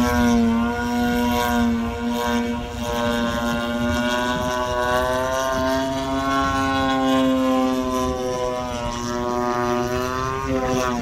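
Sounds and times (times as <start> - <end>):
model plane engine buzzing: 0.0 - 11.0.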